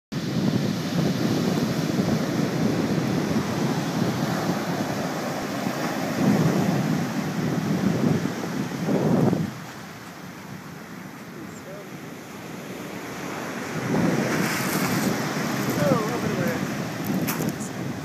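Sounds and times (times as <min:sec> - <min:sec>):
ocean surf breaking: 0:00.2 - 0:18.0
wind buffeting microphone: 0:00.2 - 0:18.0.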